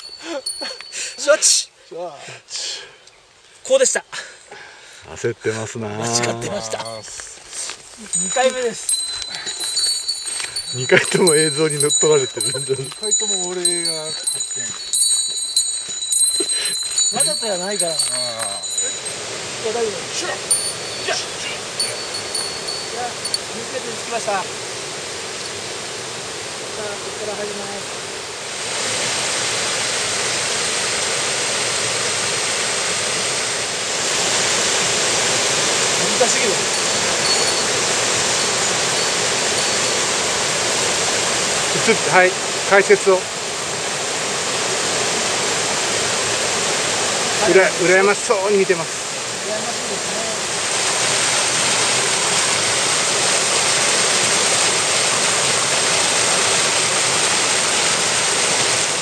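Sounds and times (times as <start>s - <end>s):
stream rushing over rocks: 5.9s - 59.0s.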